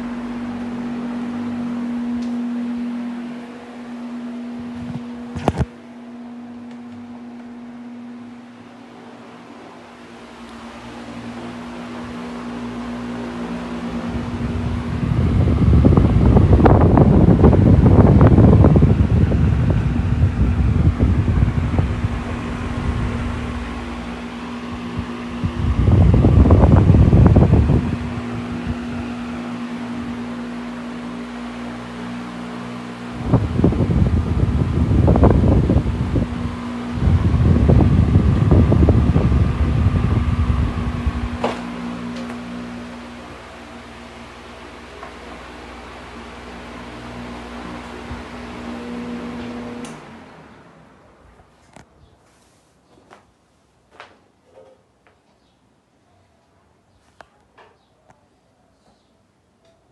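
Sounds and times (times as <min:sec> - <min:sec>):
airflow buffeting microphone: 0:00.0 - 0:52.6
electric fan motor hum: 0:00.0 - 0:55.5
fan air noise: 0:00.0 - 0:59.9.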